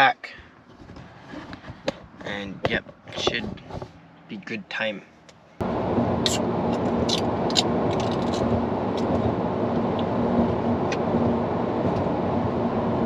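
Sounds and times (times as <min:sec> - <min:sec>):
car road and engine noise: 0:00.0 - 0:13.0
low steady hum: 0:00.0 - 0:13.0.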